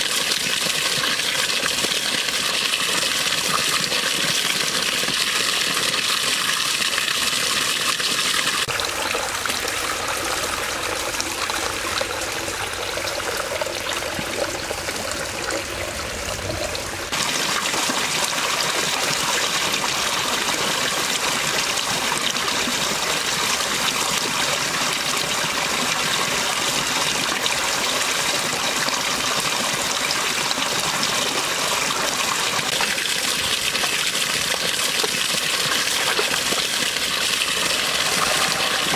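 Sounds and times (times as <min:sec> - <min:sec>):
water splashing into pond: 0:00.0 - 0:38.9.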